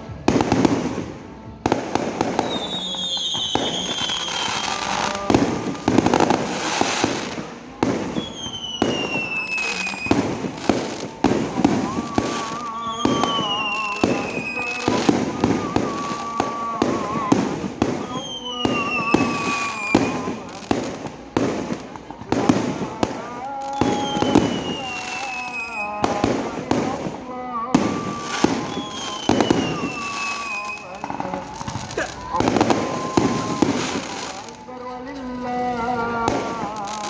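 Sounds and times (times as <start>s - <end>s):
fireworks bangs and crackles: 0.0s - 37.0s
whistling fireworks: 0.0s - 37.0s.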